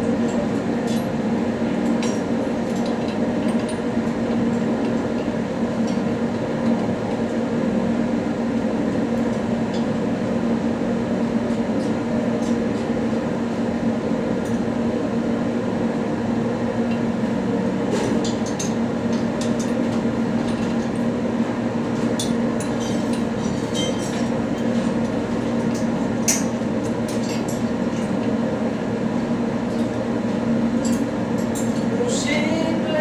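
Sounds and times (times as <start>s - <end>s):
workshop machinery drone: 0.0s - 33.0s.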